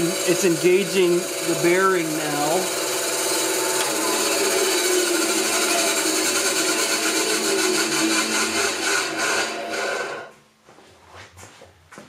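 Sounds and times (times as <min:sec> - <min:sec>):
bearing spinning noise: 0:00.0 - 0:10.0
bandsaw running: 0:00.0 - 0:10.3.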